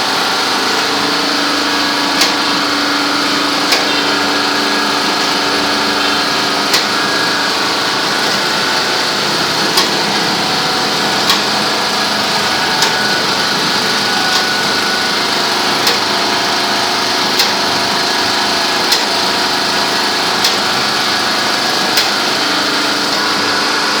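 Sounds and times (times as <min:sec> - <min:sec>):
packing machine running: 0:00.0 - 0:24.0
machine sharp clicks: 0:00.1 - 0:24.0.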